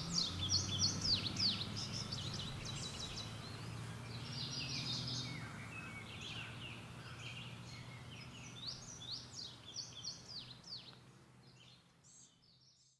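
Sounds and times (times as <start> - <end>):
songbirds chirping and whistling: 0.0 - 12.9.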